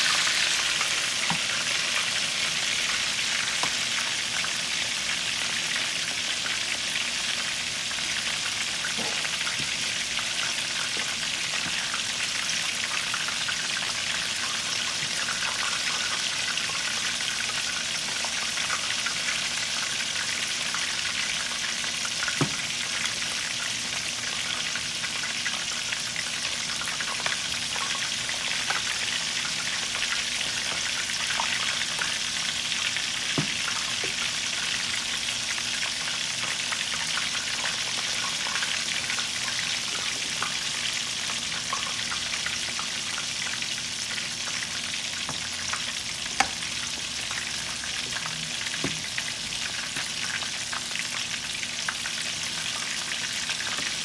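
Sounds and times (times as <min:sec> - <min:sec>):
chicken frying in hot oil: 0:00.0 - 0:54.0.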